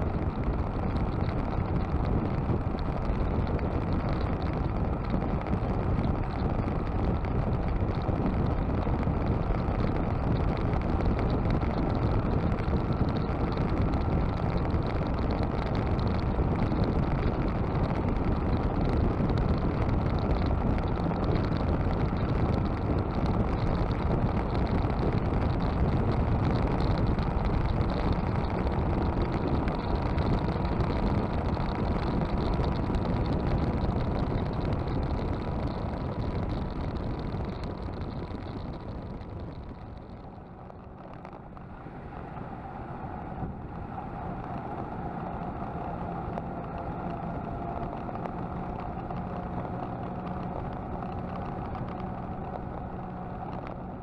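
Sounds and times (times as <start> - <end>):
motorcycle cruising: 0.0 - 54.0
wind and road noise: 0.0 - 54.0.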